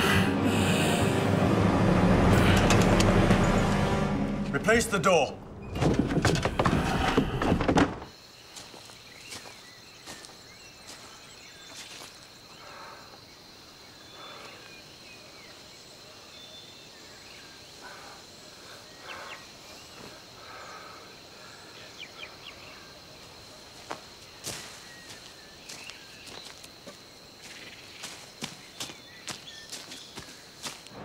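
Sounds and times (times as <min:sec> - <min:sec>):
high insect drone: 0:00.0 - 0:04.8, 0:08.1 - 0:31.0.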